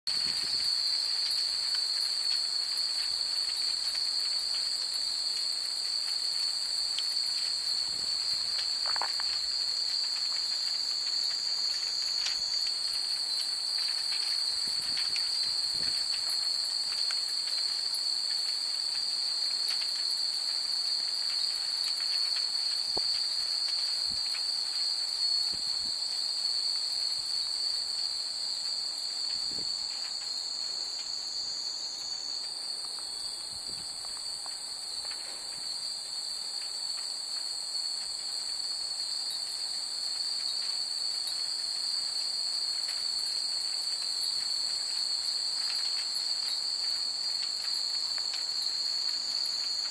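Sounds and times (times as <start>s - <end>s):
night insects chorus: 0.1s - 49.9s.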